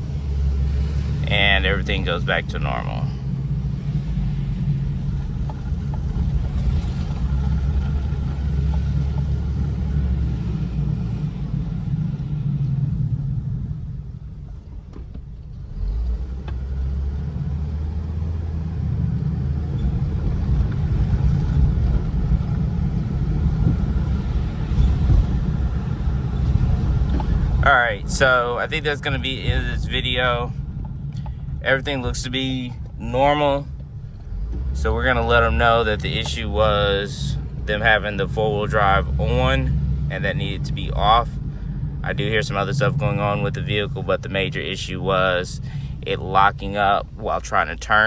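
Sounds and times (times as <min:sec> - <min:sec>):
vehicle engine and road rumble: 0:00.0 - 0:48.0.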